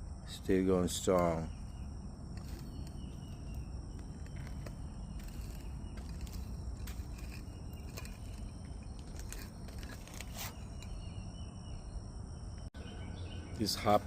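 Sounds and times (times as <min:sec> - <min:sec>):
faint insect buzz: 0:00.0 - 0:13.3.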